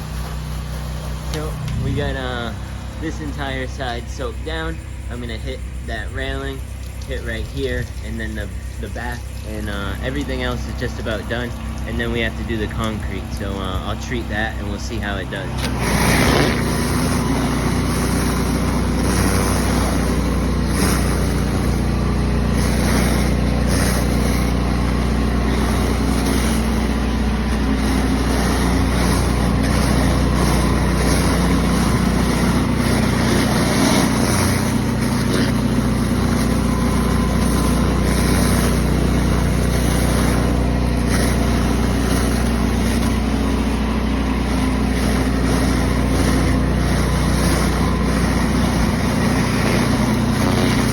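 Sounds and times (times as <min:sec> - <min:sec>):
pressure washer engine hum: 0:00.0 - 0:50.9
water spray hiss: 0:00.0 - 0:50.9.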